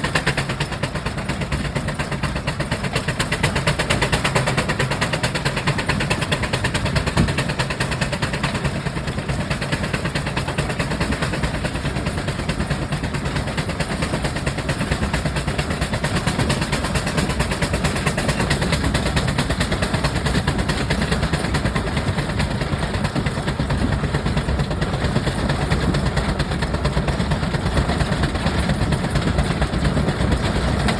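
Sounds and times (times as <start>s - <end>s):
steam traction engine knocking: 0.0s - 30.9s.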